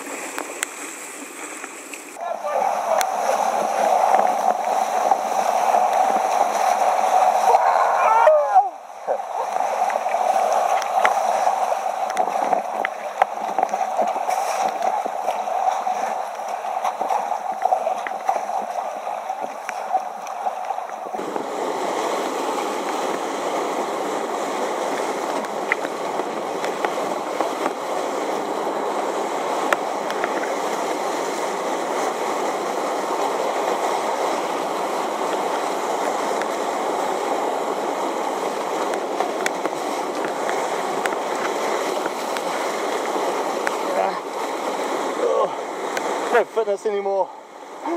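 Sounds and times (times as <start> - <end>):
whitewater rushing and splashing: 0.0 - 47.9.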